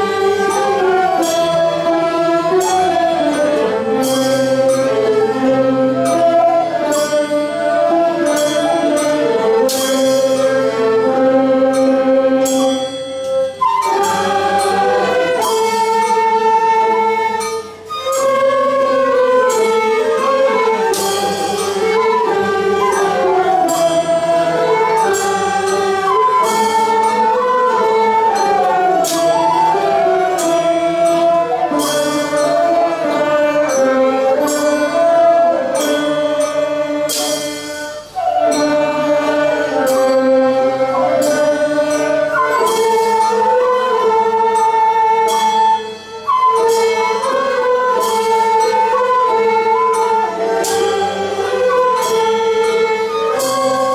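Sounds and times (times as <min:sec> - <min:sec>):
sharp percussive strokes: 0:00.0 - 0:53.9
slow sustained melody with singing: 0:00.0 - 0:53.9.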